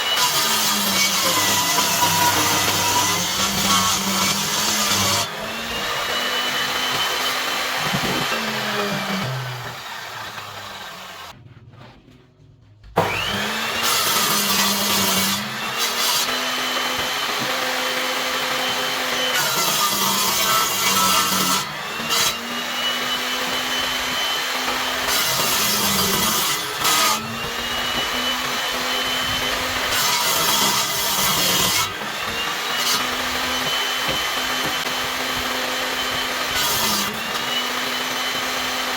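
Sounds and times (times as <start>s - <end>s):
power tool whining on wood: 0.0s - 11.4s, 13.0s - 38.9s.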